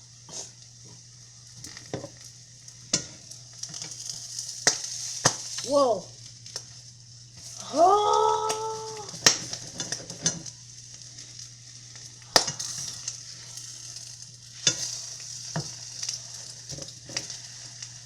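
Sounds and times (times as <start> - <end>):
eggs sizzling in a pan: 0.0 - 18.0.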